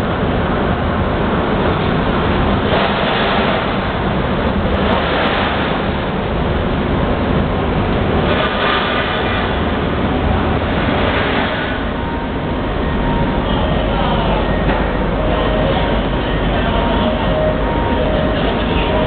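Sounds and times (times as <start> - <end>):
machinery rumbling drone: 0.0 - 19.0.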